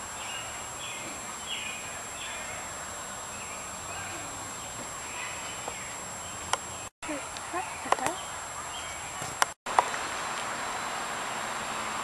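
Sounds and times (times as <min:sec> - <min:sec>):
birds chirping: 0:00.0 - 0:10.0
steady outdoor hiss: 0:00.0 - 0:12.0.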